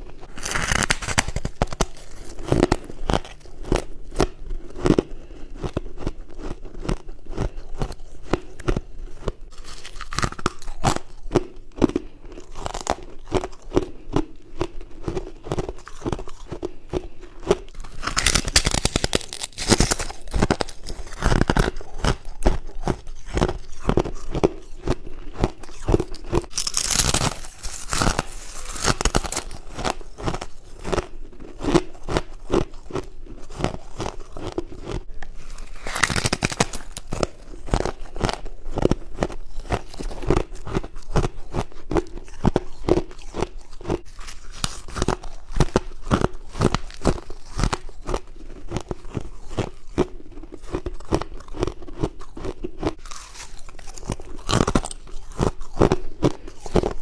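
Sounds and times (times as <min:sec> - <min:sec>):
person chewing frost crunching: 0:00.0 - 0:57.0.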